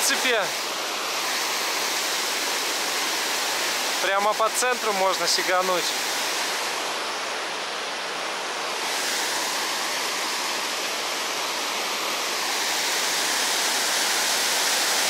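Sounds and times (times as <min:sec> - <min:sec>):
water rushing over waterfall: 0:00.0 - 0:15.0.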